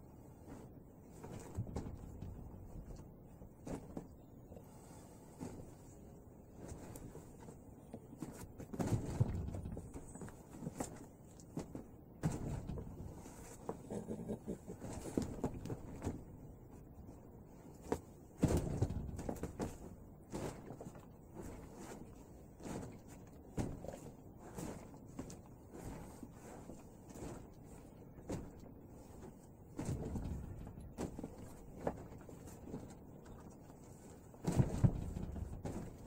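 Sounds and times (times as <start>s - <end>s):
clothing rustle: 0.0s - 36.0s.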